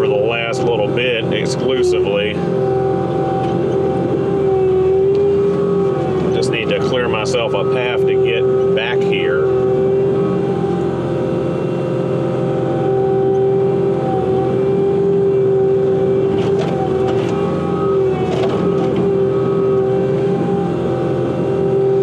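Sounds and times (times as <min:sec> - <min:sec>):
loader diesel engine under load: 0:00.0 - 0:22.0.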